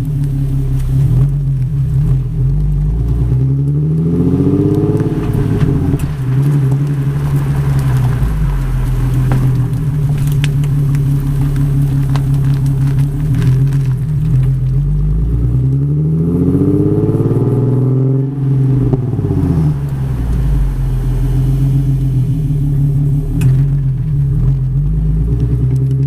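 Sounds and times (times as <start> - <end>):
car exhaust drone: 0.0 - 26.0.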